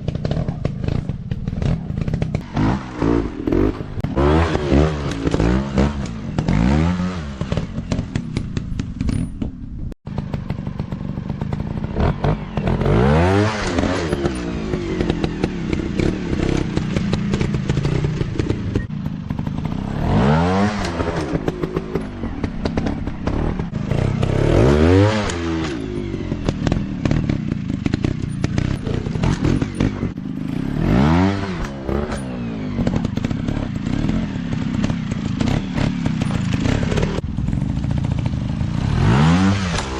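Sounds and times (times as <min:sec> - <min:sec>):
dirt bike engines revving: 0:00.0 - 0:09.0, 0:10.1 - 0:39.9
clatter and thumps: 0:00.0 - 0:13.0, 0:13.6 - 0:24.6, 0:25.2 - 0:30.6, 0:31.6 - 0:38.5.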